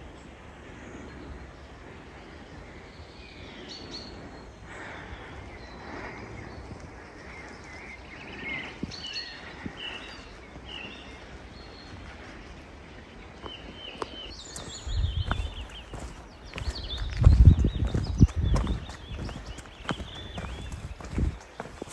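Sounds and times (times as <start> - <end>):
birds chirping and whistling: 0.8 - 21.9.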